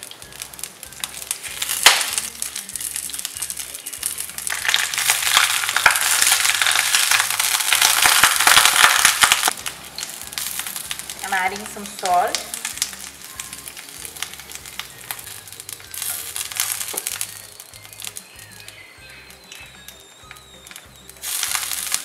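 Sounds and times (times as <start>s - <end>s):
greens sizzling in hot fat: 0.0s - 22.0s.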